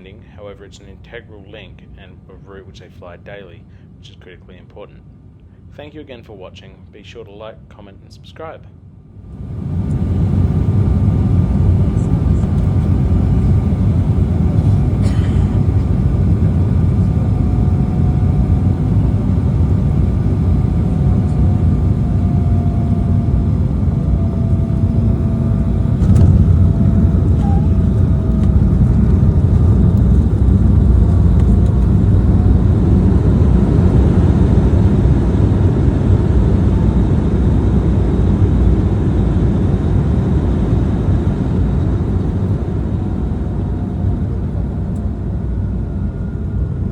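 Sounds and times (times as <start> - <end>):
airliner cabin engine rumble: 0.0 - 46.9
faint whine: 0.0 - 46.9.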